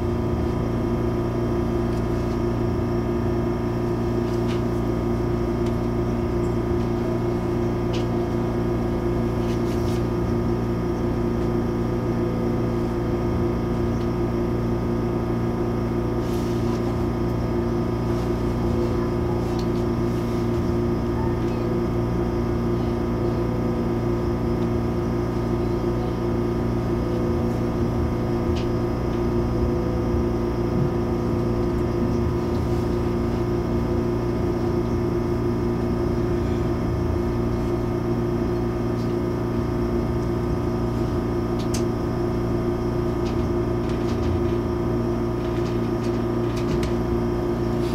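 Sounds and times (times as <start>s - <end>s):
train cabin hum and rumble: 0.0s - 47.9s.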